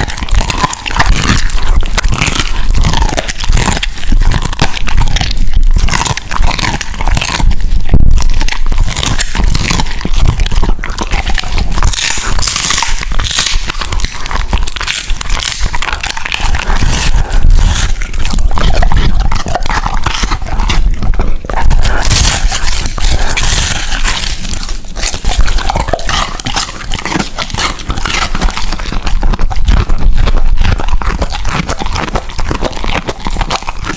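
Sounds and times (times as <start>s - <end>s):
dog crunching and chewing food: 0.0s - 33.9s.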